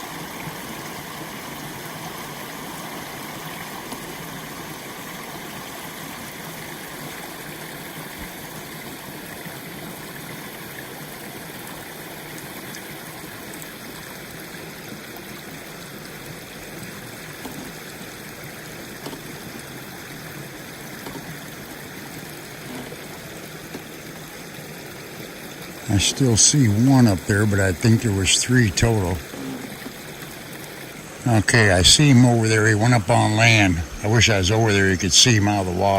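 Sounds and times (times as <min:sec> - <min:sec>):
water rushing through dam: 0:00.0 - 0:35.9.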